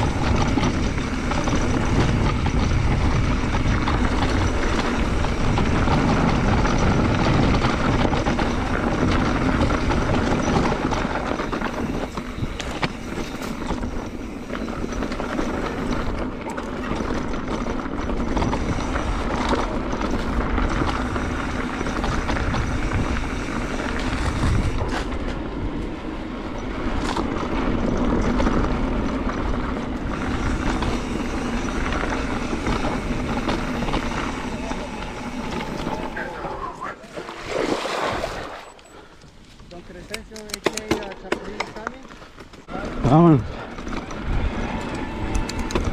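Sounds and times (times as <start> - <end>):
bike rattling over bumps: 0.0 - 36.8, 38.2 - 45.9
bike tyres rushing on dirt: 0.0 - 40.1, 40.7 - 45.9.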